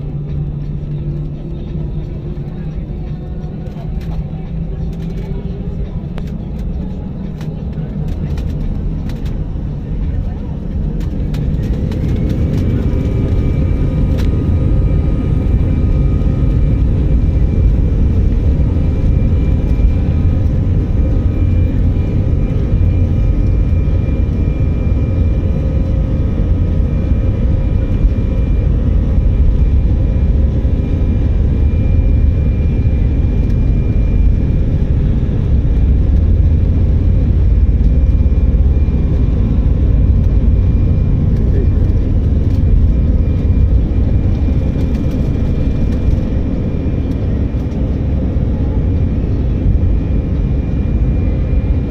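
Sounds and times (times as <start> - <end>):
faint steady whines: 0.0 - 51.9
jet engine cabin rumble: 0.0 - 51.9.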